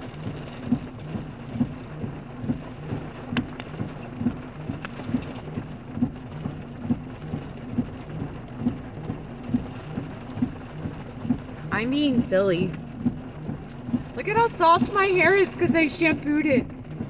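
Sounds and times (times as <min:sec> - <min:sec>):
heavy rain on a car: 0:00.0 - 0:17.0.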